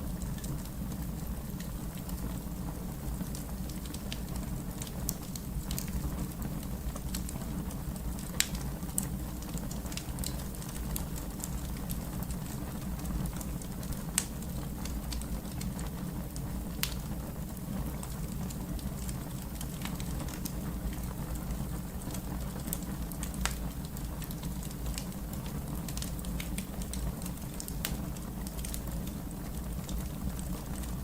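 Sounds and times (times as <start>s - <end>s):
fire popping and snapping: 0.0s - 31.0s
wood fire rumbling: 0.0s - 31.0s.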